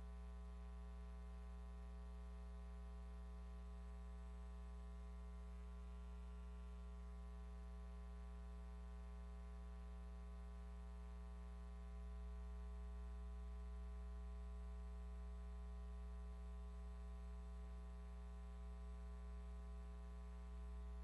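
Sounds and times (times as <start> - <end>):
electrical mains hum with buzz: 0.0 - 21.0.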